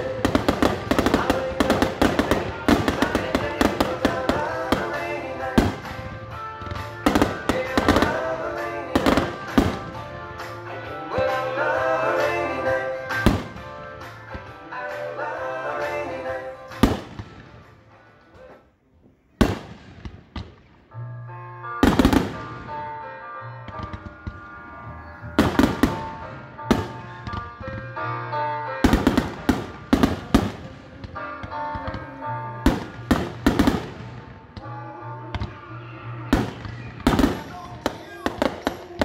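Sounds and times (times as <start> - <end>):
music playing: 0.0 - 18.8, 19.5 - 39.0.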